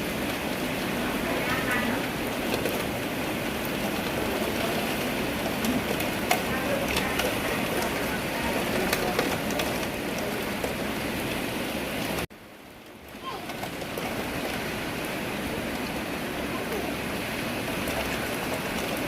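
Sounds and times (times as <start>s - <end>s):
raindrops clicking on surfaces: 0.0s - 19.0s
steady rainfall hiss: 0.0s - 19.0s.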